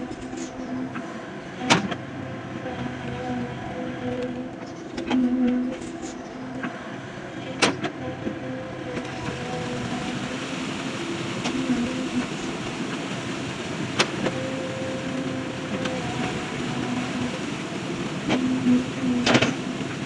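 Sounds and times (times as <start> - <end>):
excavator engine and hydraulic drone: 0.0 - 20.0.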